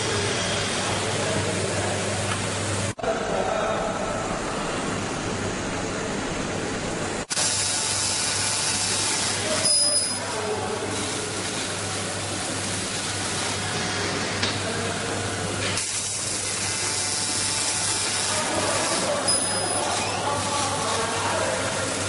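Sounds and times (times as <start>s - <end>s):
laser cutter hiss and hum: 4.0s - 22.0s.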